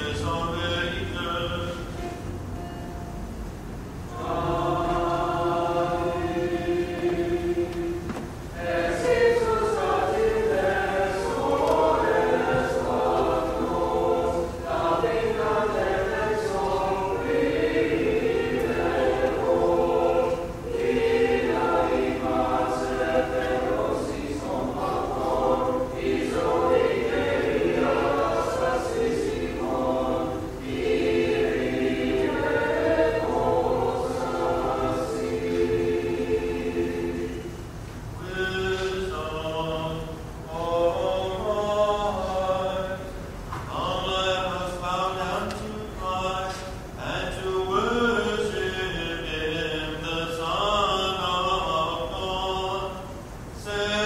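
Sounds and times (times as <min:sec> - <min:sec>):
church choir singing a hymn: 0:00.0 - 0:02.3, 0:04.0 - 0:54.0.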